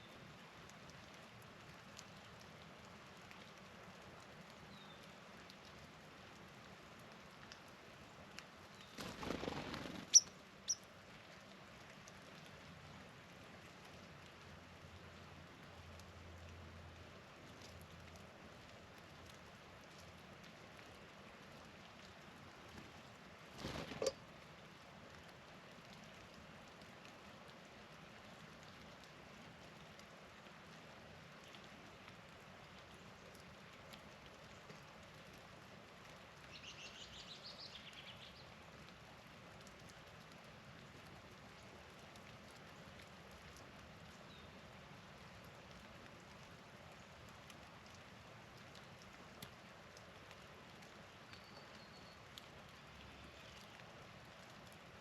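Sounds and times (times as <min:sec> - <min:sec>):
faint patter of precipitation: 0:00.0 - 0:55.0.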